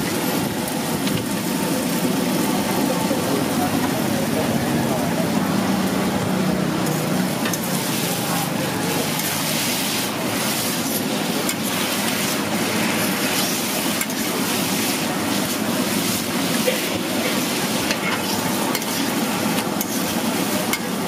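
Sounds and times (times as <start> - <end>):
noodles sizzling in oil: 0.0 - 21.0.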